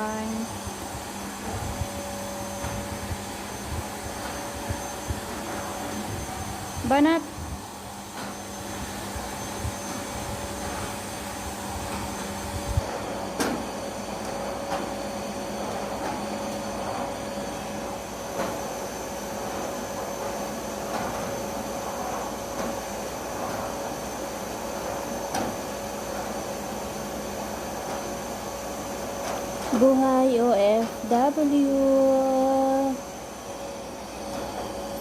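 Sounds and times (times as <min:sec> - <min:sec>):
vacuum cleaner on carpet: 0:00.0 - 0:35.0.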